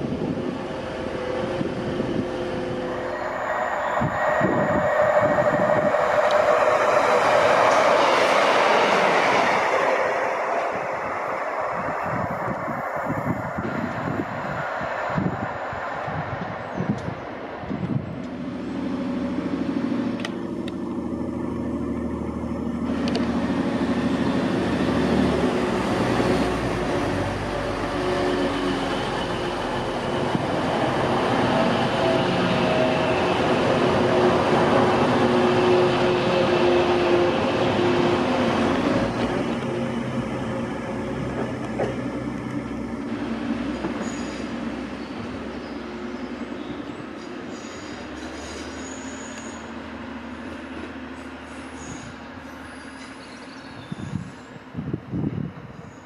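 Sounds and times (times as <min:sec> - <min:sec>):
diesel train engine drone: 0:00.0 - 0:56.0
wheel and rail noise: 0:00.0 - 0:56.0.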